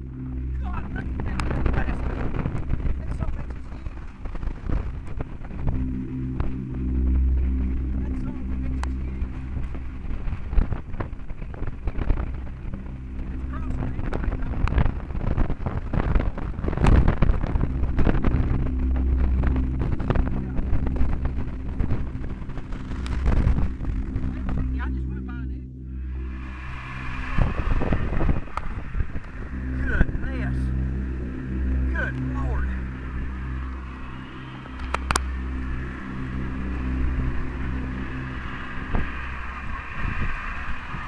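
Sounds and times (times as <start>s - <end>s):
vehicle engine hum: 0.0s - 41.0s
wind gusting across microphone: 0.0s - 41.0s.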